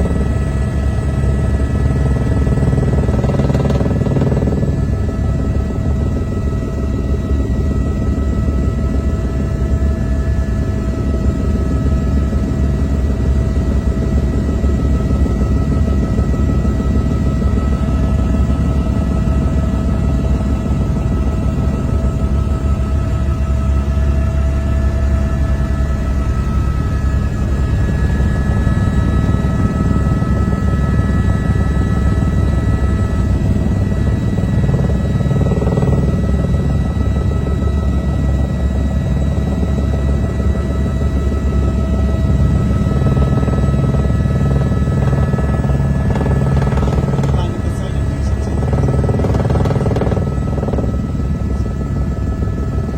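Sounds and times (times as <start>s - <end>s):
helicopter rotor drone: 0.0s - 52.9s
high turbine whine: 0.0s - 52.9s.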